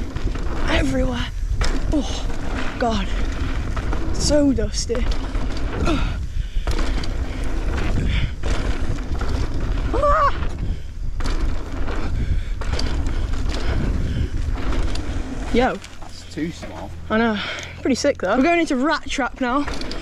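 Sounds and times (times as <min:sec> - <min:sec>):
bike rattling: 0:00.0 - 0:20.0
bike tyres on dry dirt: 0:00.0 - 0:20.0.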